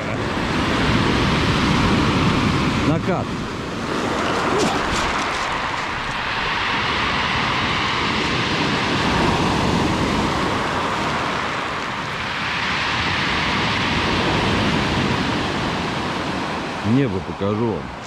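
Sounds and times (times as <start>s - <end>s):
surf washing up pebble beach: 0.0s - 18.0s.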